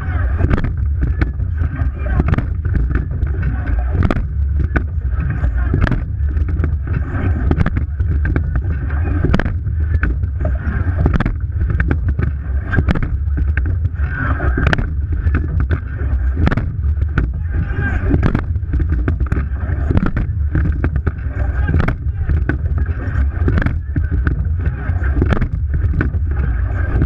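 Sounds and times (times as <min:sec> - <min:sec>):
wind and water rush: 0:00.0 - 0:27.0.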